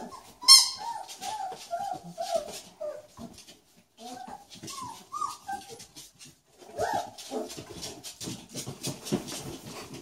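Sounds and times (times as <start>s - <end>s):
paws scrabbling on hard floor: 0.0s - 10.0s
puppy whining: 0.0s - 10.0s.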